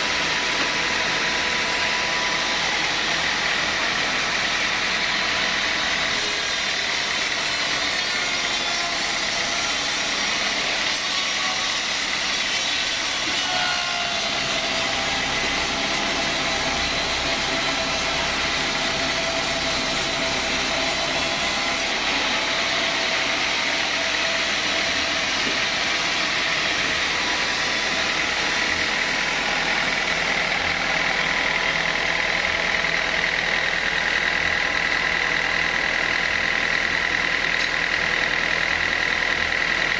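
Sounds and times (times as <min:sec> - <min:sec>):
sawmill saw and motor running: 0:00.0 - 0:39.9.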